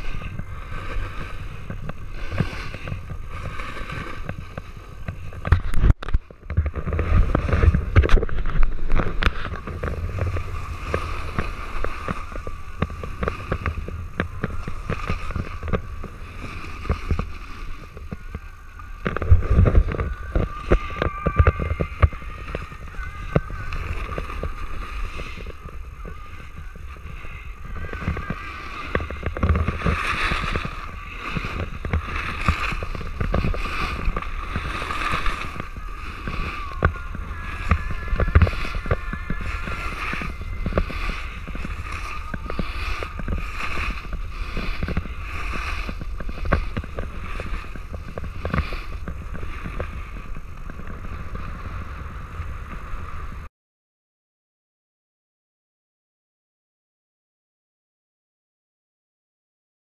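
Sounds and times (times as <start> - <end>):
snowboard chatter knocks: 0.0 - 51.6
snowboard scraping over snow: 0.0 - 53.5
wind on microphone: 0.0 - 53.5.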